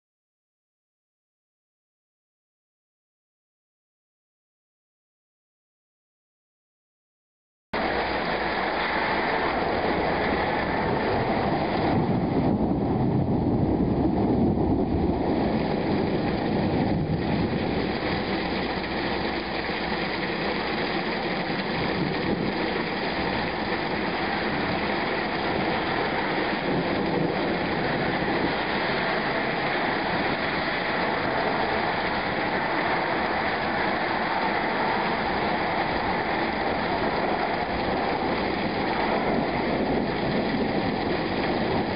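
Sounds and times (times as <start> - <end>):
rolling thunder: 7.8 - 41.9
steady rain rush: 7.8 - 41.9.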